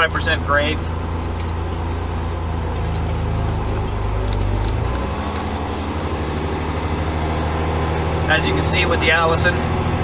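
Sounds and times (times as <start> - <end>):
diesel truck engine drone: 0.0 - 10.0.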